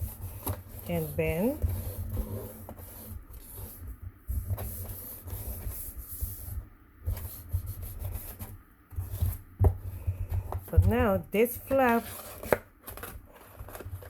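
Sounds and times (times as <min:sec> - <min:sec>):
paper rubbing and rustling: 0:00.0 - 0:09.4, 0:11.8 - 0:14.0.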